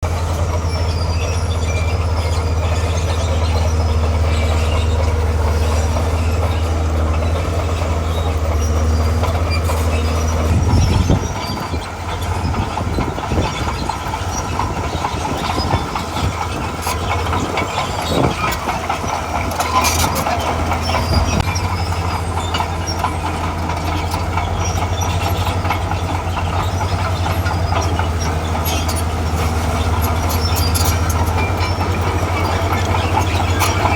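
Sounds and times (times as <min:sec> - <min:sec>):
bulldozer diesel engine drone: 0:00.0 - 0:33.9
steel tracks clanking: 0:00.0 - 0:33.9.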